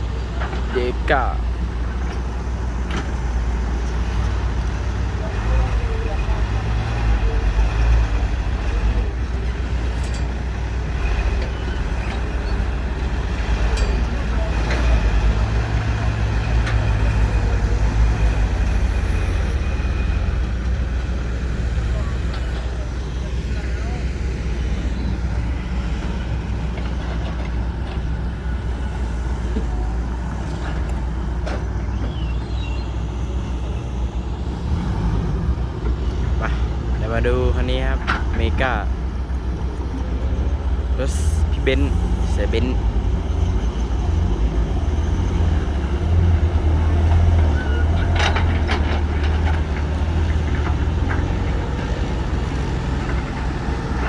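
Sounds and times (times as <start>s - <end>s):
excavator diesel engines rumbling: 0.0s - 54.0s.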